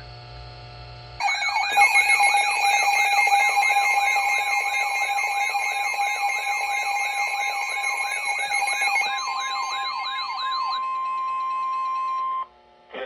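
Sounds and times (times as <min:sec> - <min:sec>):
steady alert tones: 0:01.2 - 0:12.4
wailing siren sweep: 0:01.2 - 0:12.4.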